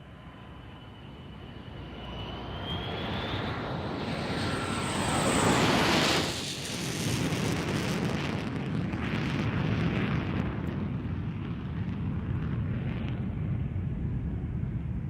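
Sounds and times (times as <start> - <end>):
low airplane rumble: 0.0 - 15.0.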